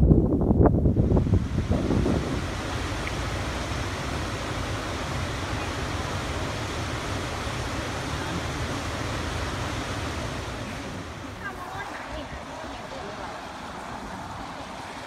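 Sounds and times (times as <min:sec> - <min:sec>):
wind buffeting microphone: 0:00.0 - 0:15.0
waterfall and river rushing: 0:01.2 - 0:15.0.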